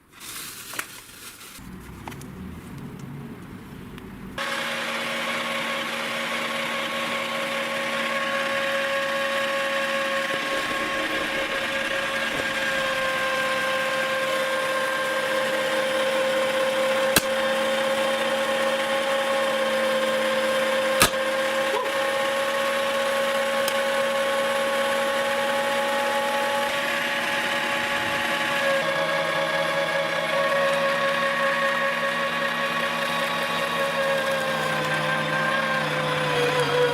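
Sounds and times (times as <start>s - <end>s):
meat grinder motor whirring: 4.0s - 36.9s.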